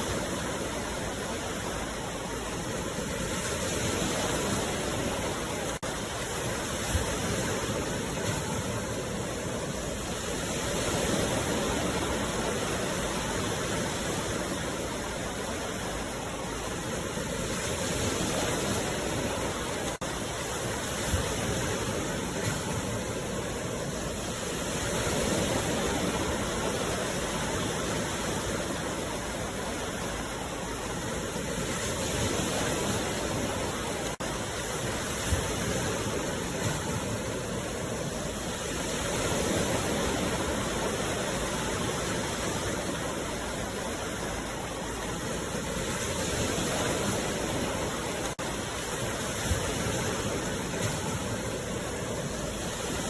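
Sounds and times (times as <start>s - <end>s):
ocean waves on shore: 0.0s - 53.0s.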